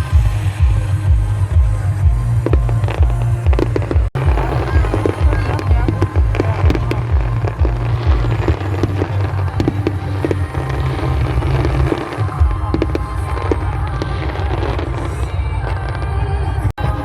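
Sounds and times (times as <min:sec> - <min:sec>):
fireworks bangs and crackles: 0:00.0 - 0:17.0
loud music with pulsing bass: 0:00.0 - 0:17.0.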